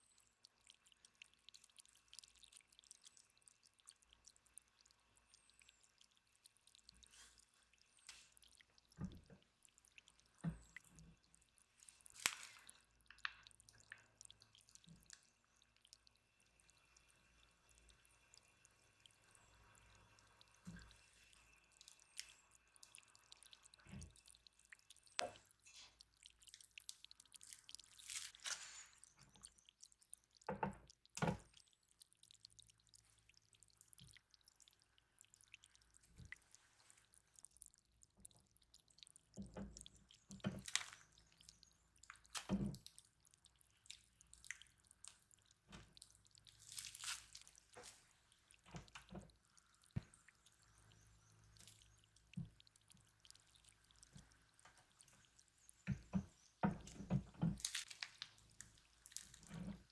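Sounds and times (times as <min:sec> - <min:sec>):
wet squishing of piped filling: 0:00.0 - 0:59.9.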